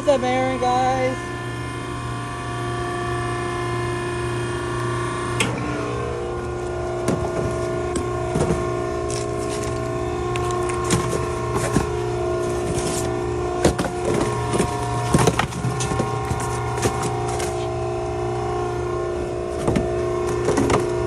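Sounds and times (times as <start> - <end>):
baler hydraulic hum: 0.0 - 21.0.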